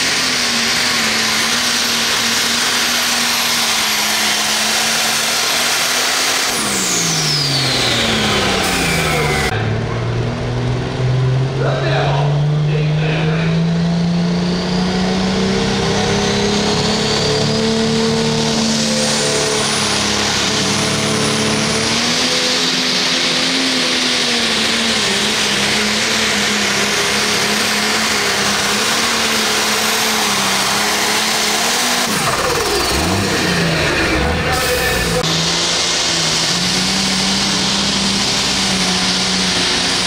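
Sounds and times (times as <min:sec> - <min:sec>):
tractor engine at full throttle: 0:00.0 - 0:40.0.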